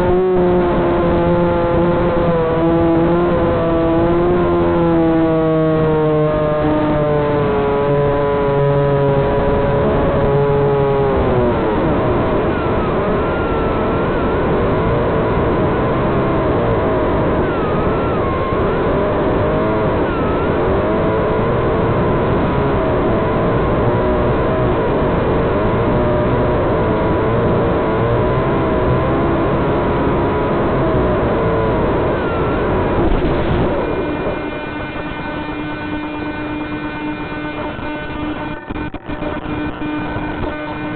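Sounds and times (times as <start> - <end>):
drone motors whirring: 0.0 - 40.9
wind noise on microphone: 0.0 - 40.9
steady hum with fixed tones: 6.0 - 40.9.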